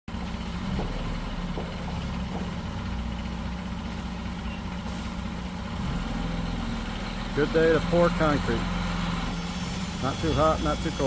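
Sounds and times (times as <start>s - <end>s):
truck engine idling: 0.1s - 11.0s.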